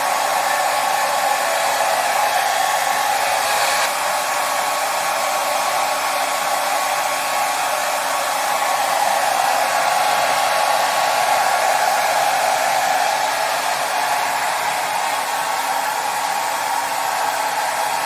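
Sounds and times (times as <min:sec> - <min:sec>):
hair dryer blowing: 0:00.0 - 0:18.0.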